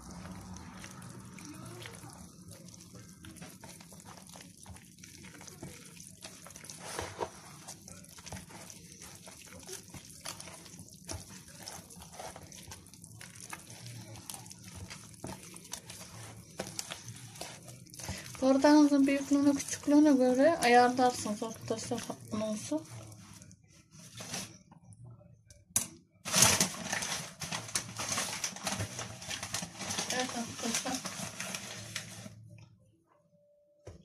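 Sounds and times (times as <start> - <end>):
hands kneading wet dough: 0.0 - 25.1, 26.7 - 32.7.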